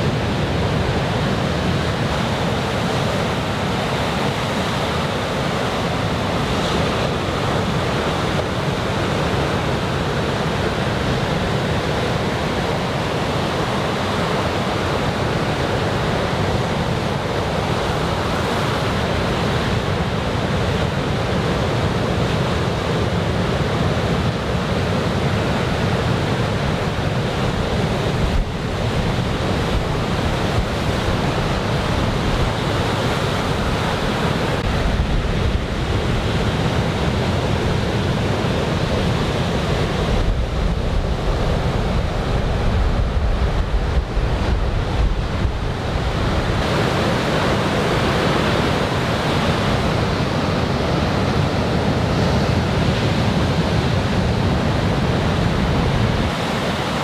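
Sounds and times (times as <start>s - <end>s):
surf waves breaking: 0.0s - 57.0s
wind on microphone: 0.0s - 57.0s.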